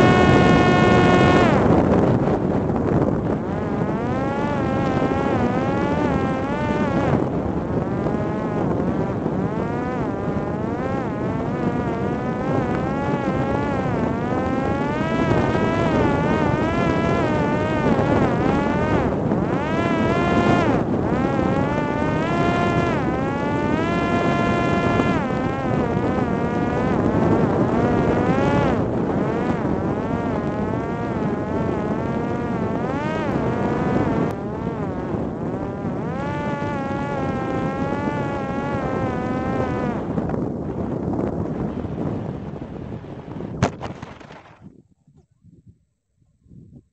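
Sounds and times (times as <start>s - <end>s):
drone motor and propeller whine: 0.0s - 44.8s
wind rush: 0.0s - 45.8s.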